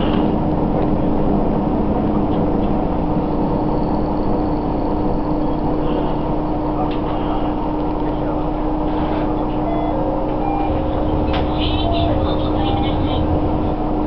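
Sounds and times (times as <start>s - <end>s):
railcar engine drone: 0.0s - 14.0s
rumbling wheel noise: 0.0s - 14.0s.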